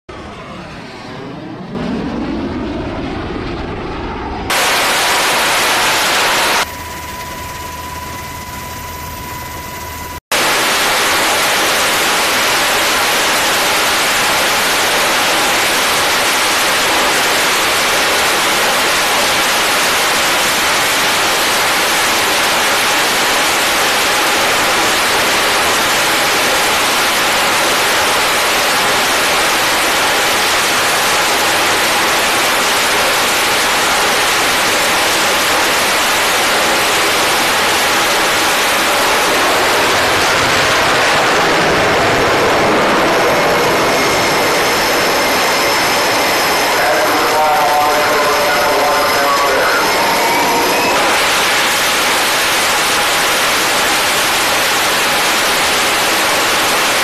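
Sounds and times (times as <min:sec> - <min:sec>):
jet engines at full power: 0:00.0 - 0:57.0.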